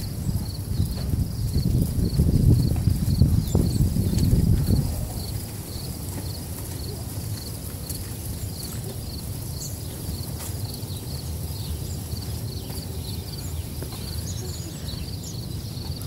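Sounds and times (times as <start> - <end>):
light footsteps: 0.0 - 16.0
wind rumble: 0.0 - 16.0.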